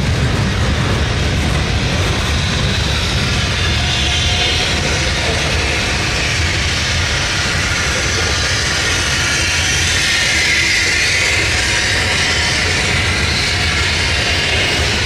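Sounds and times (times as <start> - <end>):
low engine drone: 0.0 - 15.0
train wheels rumbling on rails: 0.0 - 15.0.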